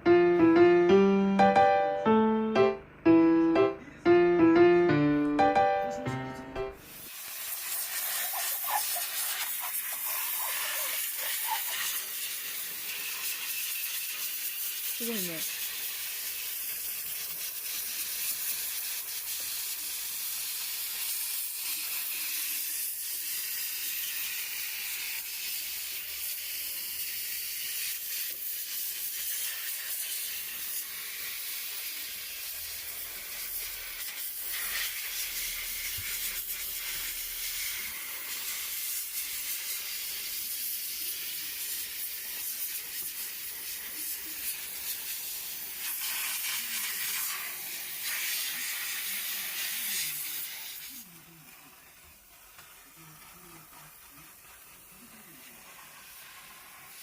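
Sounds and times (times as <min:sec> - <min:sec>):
water spraying hiss: 0:06.8 - 0:57.0.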